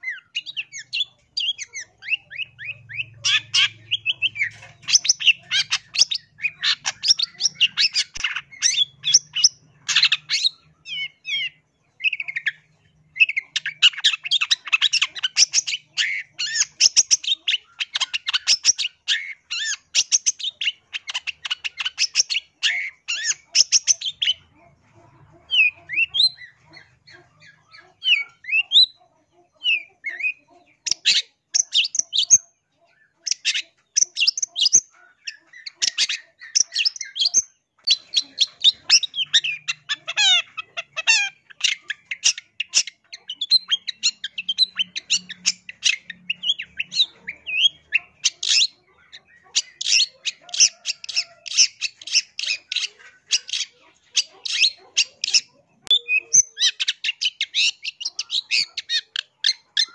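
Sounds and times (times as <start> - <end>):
bird harsh chattering song: 0.0 - 59.9.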